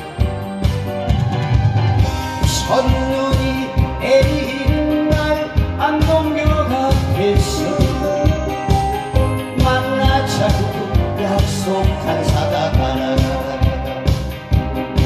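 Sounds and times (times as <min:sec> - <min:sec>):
amplified backing music with beat: 0:00.0 - 0:15.0
man singing into a microphone: 0:02.4 - 0:15.0.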